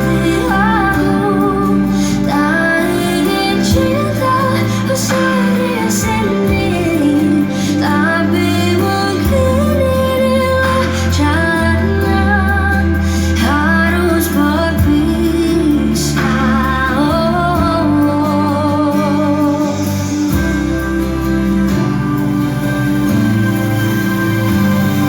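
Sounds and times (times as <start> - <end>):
woman singing: 0.0 - 22.5
bass-heavy accompaniment: 0.0 - 25.0.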